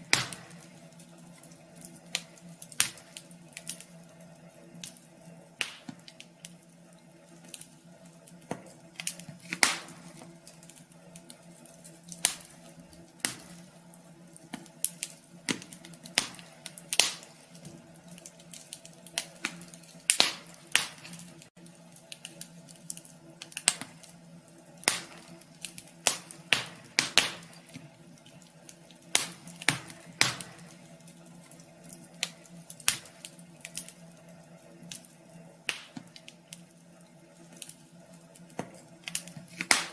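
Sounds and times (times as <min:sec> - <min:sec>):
steady low hum: 0:00.0 - 0:39.9
wood fire crackling in stove: 0:00.0 - 0:39.9.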